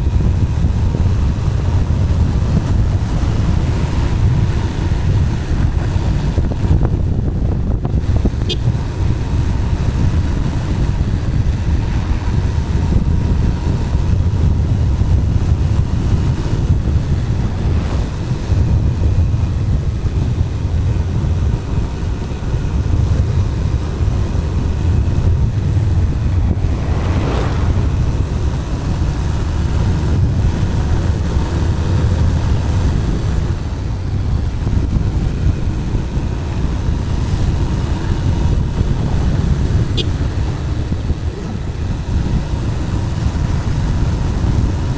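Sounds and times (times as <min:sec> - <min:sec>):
motorcycle engine heavy rumble: 0:00.0 - 0:44.9
wind rushing over microphone: 0:00.0 - 0:44.9.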